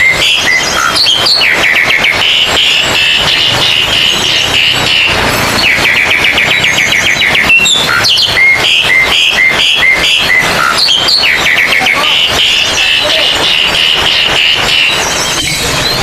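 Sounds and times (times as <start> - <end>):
birds singing trills and whistles: 0.0 - 16.0
steady noisy background: 0.0 - 16.0.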